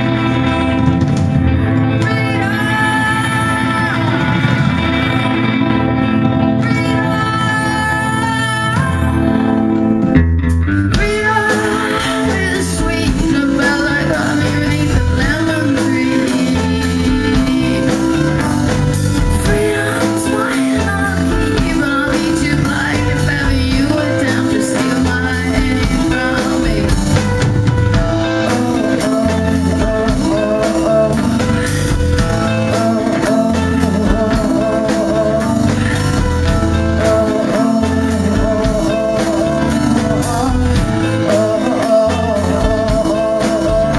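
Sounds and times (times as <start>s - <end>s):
indie rock band playing: 0.0s - 43.9s
woman singing: 1.7s - 5.6s, 6.2s - 9.9s, 10.9s - 43.9s.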